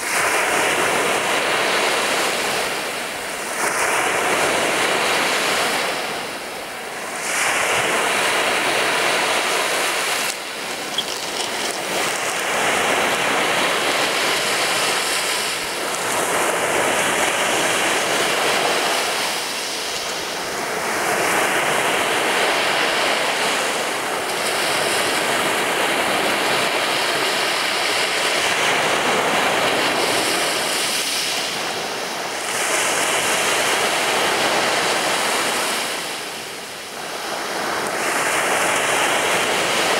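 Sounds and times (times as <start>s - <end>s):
waves breaking on sandy beach: 0.0s - 39.9s.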